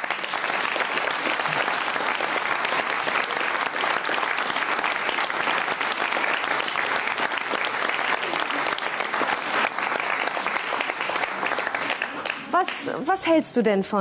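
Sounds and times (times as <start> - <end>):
studio audience applauding: 0.0 - 13.1.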